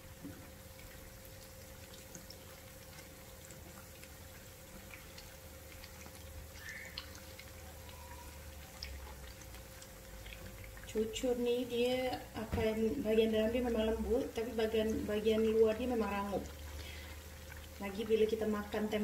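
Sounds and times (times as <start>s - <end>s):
fritters sizzling in hot oil: 0.0s - 19.0s.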